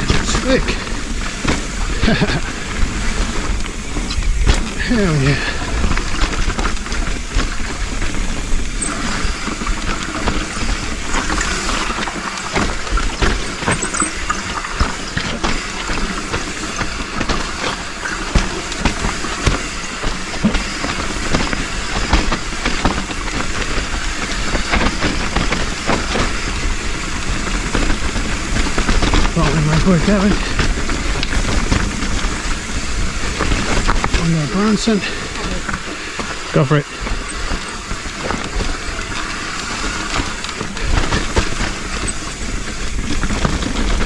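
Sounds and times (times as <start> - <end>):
bike chain and frame rattling: 0.0 - 44.0
tyres and wind rumble: 0.0 - 44.0.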